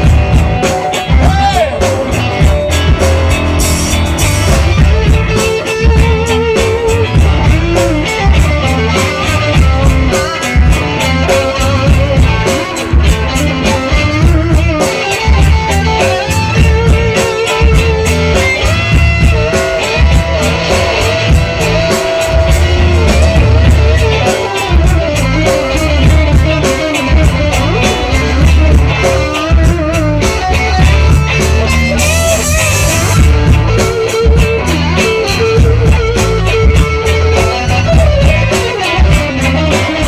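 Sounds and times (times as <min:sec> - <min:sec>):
bass guitar: 0:00.0 - 0:40.0
electric guitar lead: 0:00.0 - 0:40.0
steady drum beat: 0:00.0 - 0:40.0.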